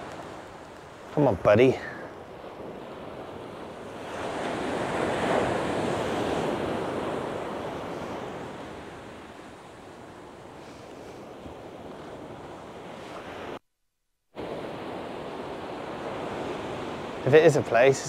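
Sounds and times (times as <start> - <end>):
waves breaking on shingle beach: 0.0 - 13.6, 14.4 - 18.0.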